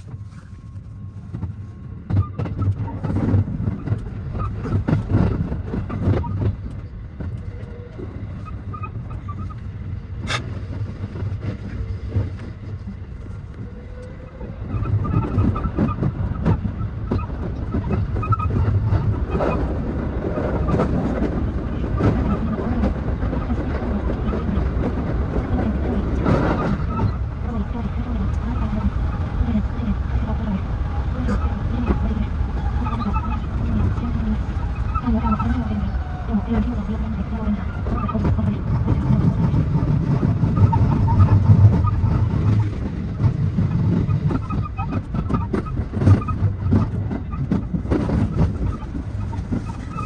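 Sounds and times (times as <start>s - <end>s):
electric train rumbling: 0.0s - 50.0s.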